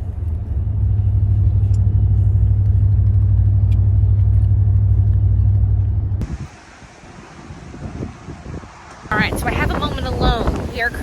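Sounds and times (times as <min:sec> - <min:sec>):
car rumbling on the move: 0:00.0 - 0:11.0.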